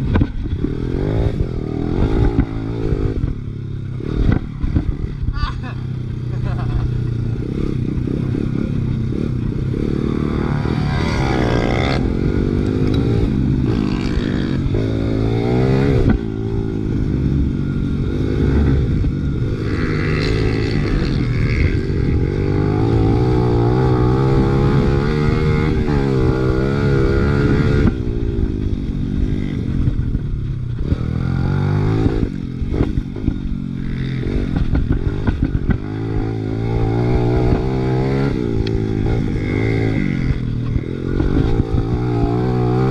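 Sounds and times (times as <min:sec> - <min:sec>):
motorbike engine revving: 0:00.0 - 0:42.9.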